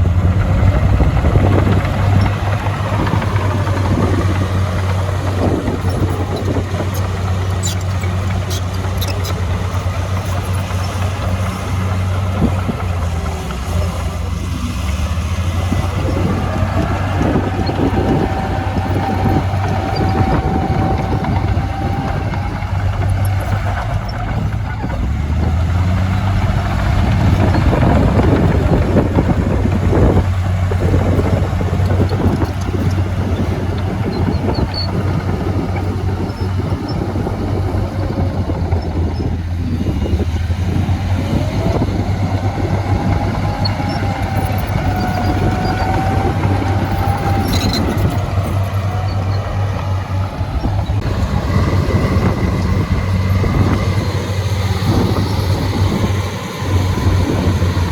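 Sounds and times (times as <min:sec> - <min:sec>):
diesel machinery engine hum: 0:00.0 - 0:57.9.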